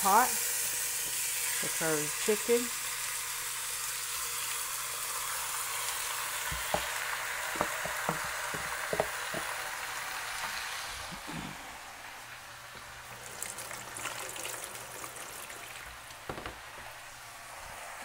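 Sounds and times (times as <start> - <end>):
chicken sizzling in hot oil: 0.0 - 11.2, 11.8 - 18.0.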